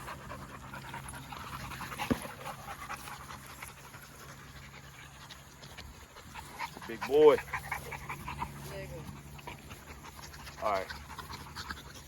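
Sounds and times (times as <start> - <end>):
dogs panting hard: 0.0 - 12.0.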